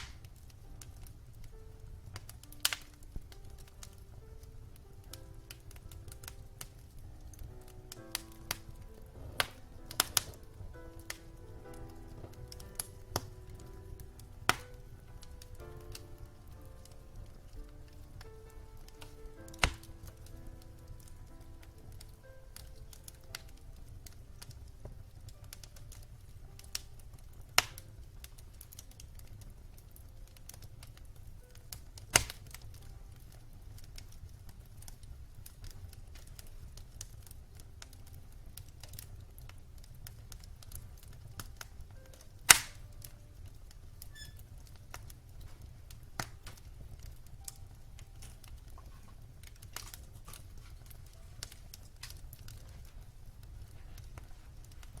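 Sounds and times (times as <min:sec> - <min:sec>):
loud pops from fire: 0:00.0 - 0:55.0
wood fire crackling: 0:00.0 - 0:55.0.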